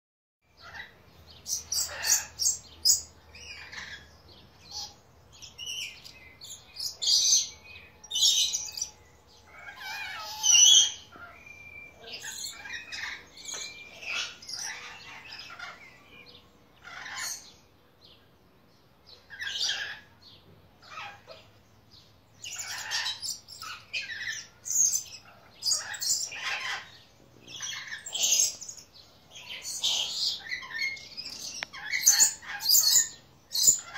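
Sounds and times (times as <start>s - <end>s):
parrots chirping and screeching: 0.6s - 17.6s, 19.3s - 20.2s, 20.8s - 21.6s, 22.4s - 33.9s.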